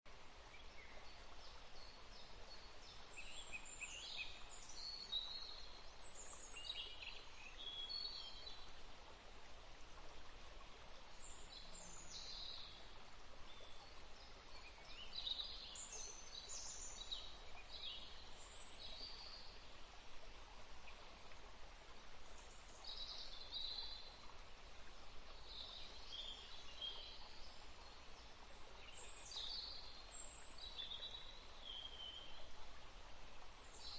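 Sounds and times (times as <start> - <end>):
faint outdoor hiss: 0.1 - 33.9.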